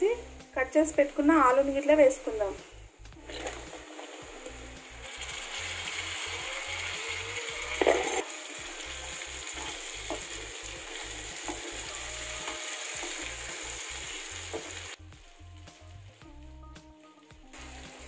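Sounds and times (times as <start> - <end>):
potatoes sizzling in hot oil: 0.0 - 18.0.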